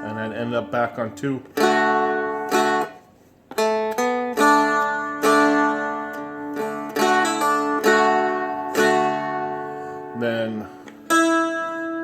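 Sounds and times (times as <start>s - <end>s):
dulcimer melody with drone strings: 1.6s - 10.2s, 11.0s - 12.0s.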